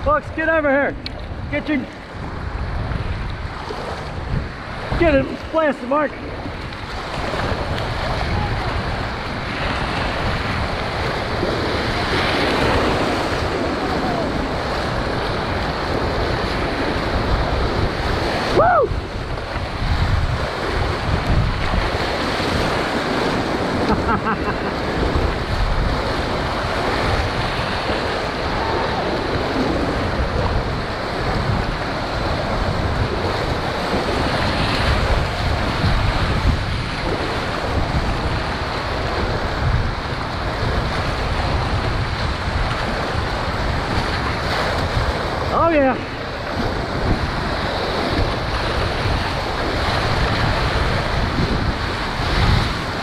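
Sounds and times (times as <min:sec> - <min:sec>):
whitewater rushing and splashing: 0:00.0 - 0:53.0
wind buffeting microphone: 0:00.0 - 0:53.0.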